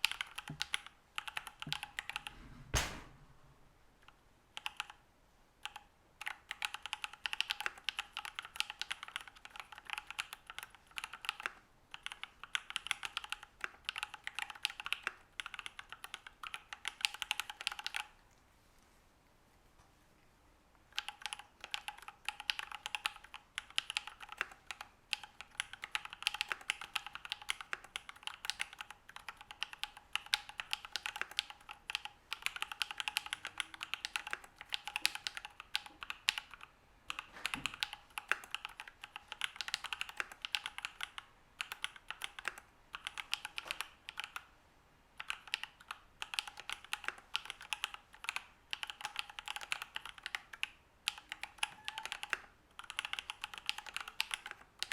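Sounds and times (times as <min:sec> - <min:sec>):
mechanical keyboard typing: 0:00.0 - 0:02.3, 0:04.6 - 0:05.0, 0:05.6 - 0:18.1, 0:21.0 - 0:44.5, 0:45.2 - 0:54.9.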